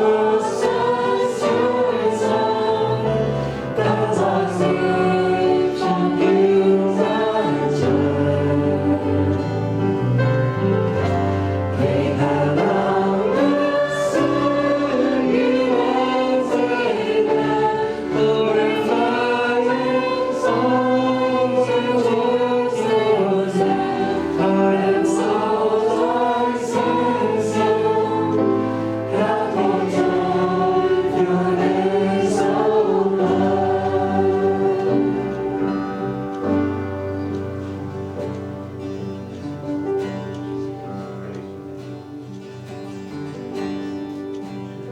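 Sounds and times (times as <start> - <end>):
group singing a gospel hymn: 0.0 - 41.6.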